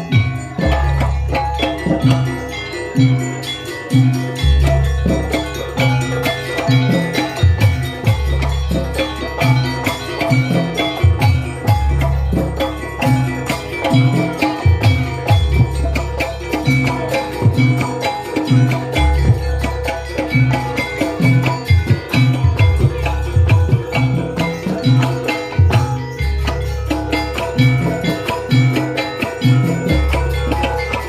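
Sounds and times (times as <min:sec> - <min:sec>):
hand drums: 0:00.0 - 0:31.0
mallet-struck metal instruments: 0:00.0 - 0:31.0.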